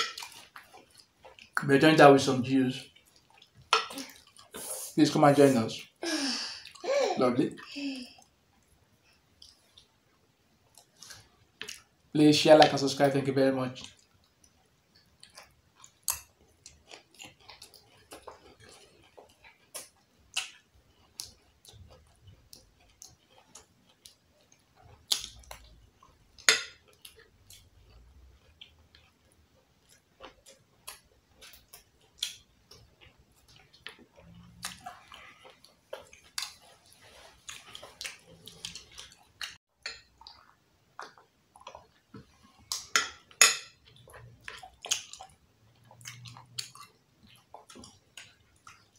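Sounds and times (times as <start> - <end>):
chewing and wet mouth noises: 0.0 - 5.0, 7.6 - 12.0, 13.8 - 48.9.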